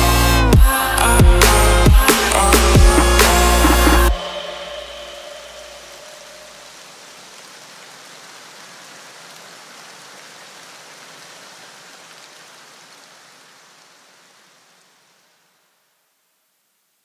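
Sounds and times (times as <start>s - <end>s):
steady rushing hiss: 0.0s - 15.8s.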